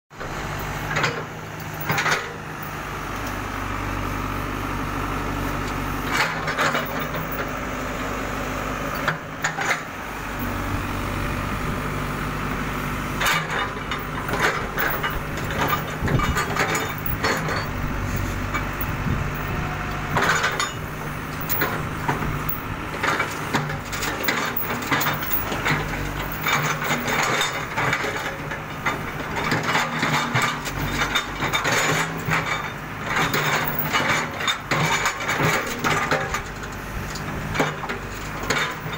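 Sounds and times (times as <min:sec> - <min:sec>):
excavator diesel engine: 0:00.2 - 0:38.9.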